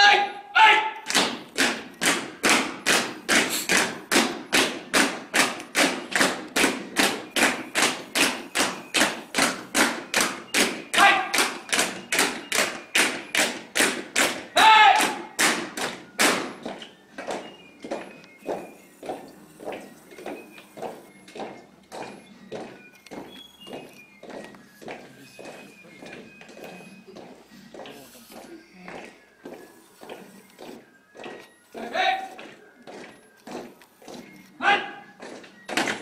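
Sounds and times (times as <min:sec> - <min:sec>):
soldiers marching on stone: 0:00.0 - 0:36.0.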